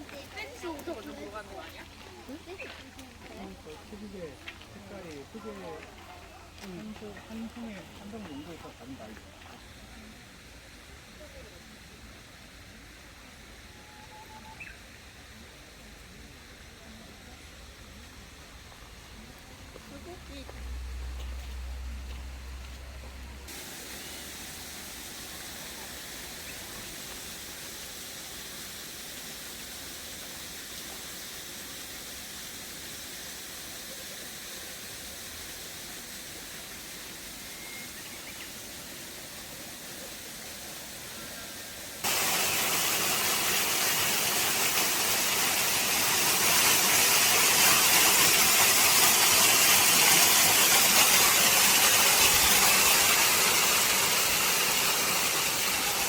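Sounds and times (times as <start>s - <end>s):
steady rushing hiss: 0.0s - 56.0s.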